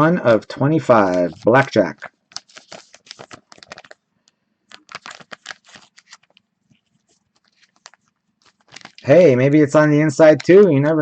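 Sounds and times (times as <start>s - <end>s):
handling trading cards and packaging: 0.7s - 10.8s.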